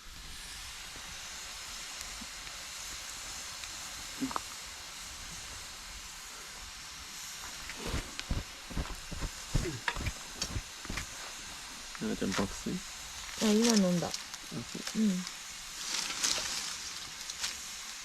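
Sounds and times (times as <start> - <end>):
campfire hissing: 0.0 - 18.0
fire crackling and popping: 0.1 - 18.0.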